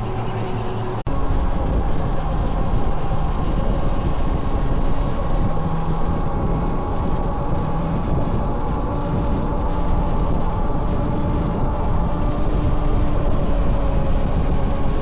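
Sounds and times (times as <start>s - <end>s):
electric motor whine: 0.0s - 15.0s
wind rushing over microphone: 0.0s - 15.0s.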